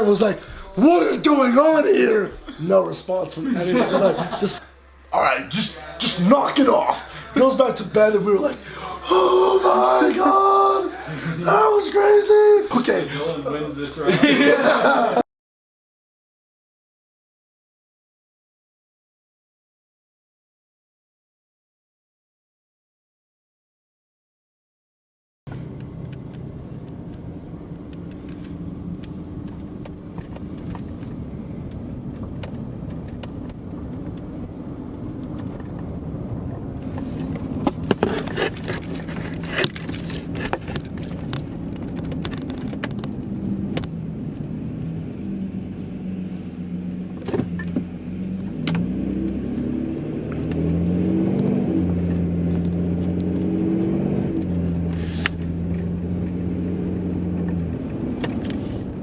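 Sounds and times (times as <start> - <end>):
car engine humming: 0.0 - 15.2, 25.5 - 59.0.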